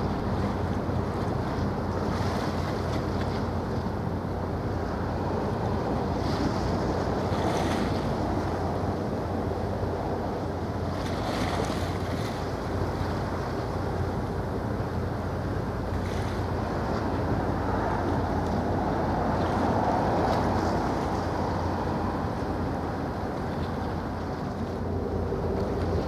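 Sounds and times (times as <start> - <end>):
boat engine drone: 0.0 - 26.0
wind on microphone: 0.0 - 26.0.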